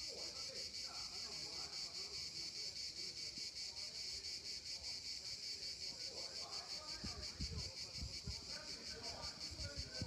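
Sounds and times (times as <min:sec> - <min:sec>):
cicadas shrilling: 0:00.0 - 0:10.0.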